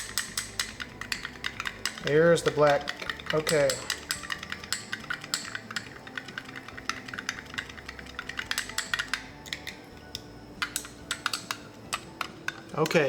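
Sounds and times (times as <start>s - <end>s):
stir stick tapping a cup: 0.0s - 13.0s.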